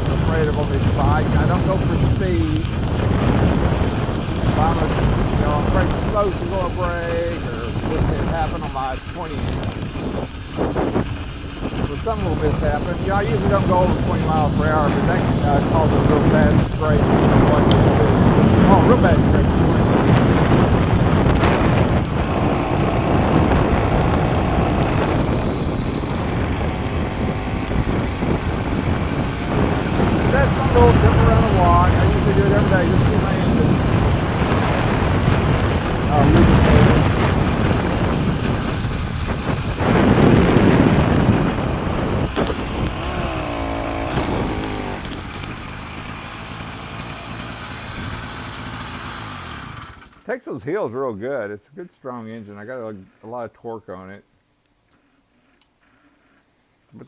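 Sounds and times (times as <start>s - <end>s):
wind buffeting microphone: 0.0s - 50.2s
small engine running: 0.0s - 50.3s.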